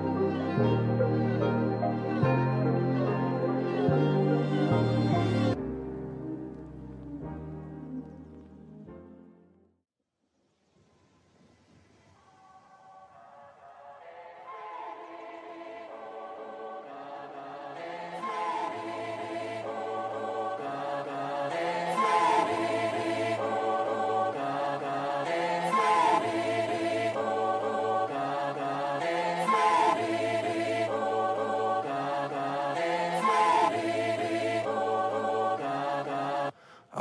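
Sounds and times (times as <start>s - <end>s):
choir-like vocal pad: 0.0s - 5.6s, 12.2s - 37.0s.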